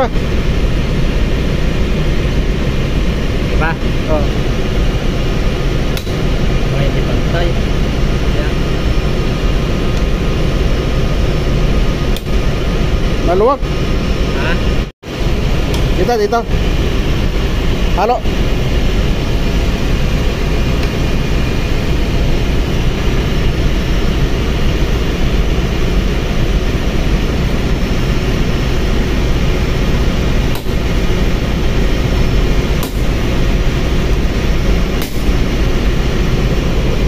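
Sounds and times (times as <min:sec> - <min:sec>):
machinery drone with low rumble: 0:00.0 - 0:37.0.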